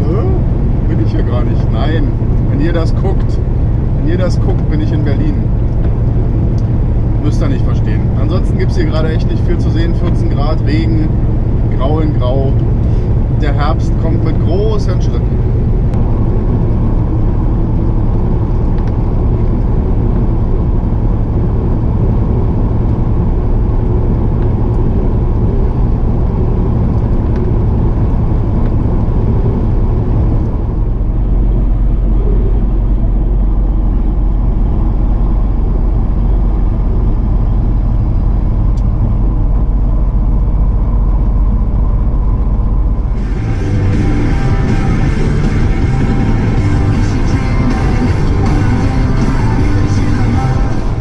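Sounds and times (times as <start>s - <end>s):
road noise hiss: 0.0s - 51.0s
truck engine and tyres droning: 0.0s - 51.0s.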